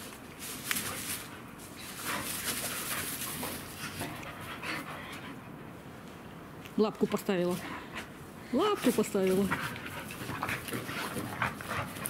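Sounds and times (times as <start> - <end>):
dogs scuffling: 0.0 - 5.4, 7.0 - 12.0
dogs panting: 0.7 - 5.8, 6.9 - 12.0.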